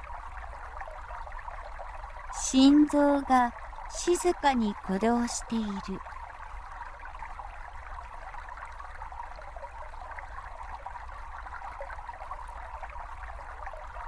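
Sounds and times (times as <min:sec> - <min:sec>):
brook babbling: 0:00.0 - 0:14.0.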